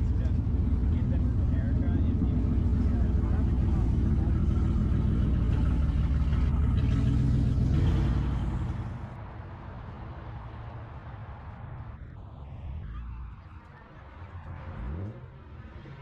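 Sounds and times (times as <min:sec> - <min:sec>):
car engine and exhaust rumbling: 0:00.0 - 0:16.0.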